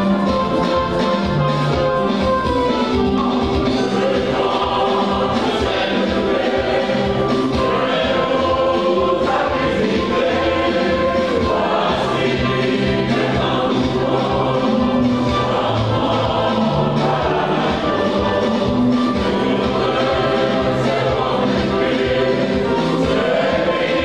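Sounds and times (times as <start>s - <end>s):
women's choir singing gospel: 3.4s - 24.0s.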